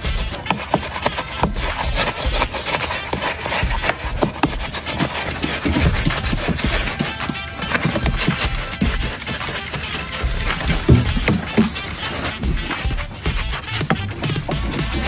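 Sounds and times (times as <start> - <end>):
brush scrubbing metal and plastic: 0.0 - 15.0.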